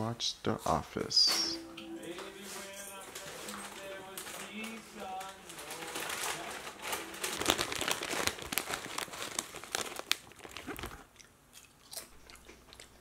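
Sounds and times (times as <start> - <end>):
chip bag crinkling: 1.4 - 13.0
chips crunching: 2.2 - 13.0.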